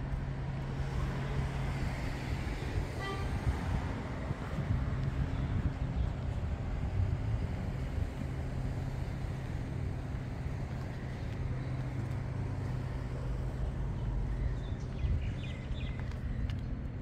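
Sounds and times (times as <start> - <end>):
traffic noise: 0.0 - 17.0
vehicle engine humming: 0.0 - 17.0.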